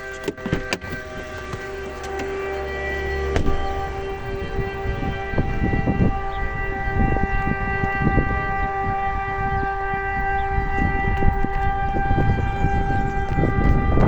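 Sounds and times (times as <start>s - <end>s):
heavy low rumble: 0.0s - 14.0s
steady siren tone: 0.0s - 14.0s.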